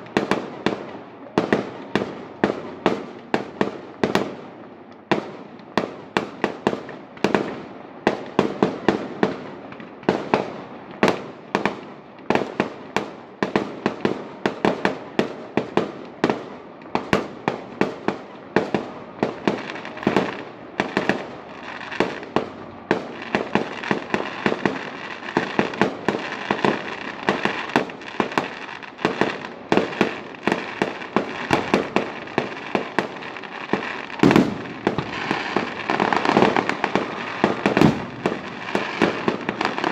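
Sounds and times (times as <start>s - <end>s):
fireworks bangs and pops: 0.0s - 39.9s
fireworks crackle: 0.0s - 39.9s.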